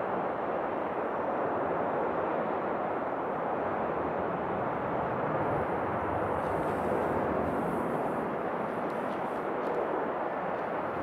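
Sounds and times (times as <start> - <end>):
jet engines roaring: 0.0 - 11.0
wind buffeting microphone: 0.0 - 11.0.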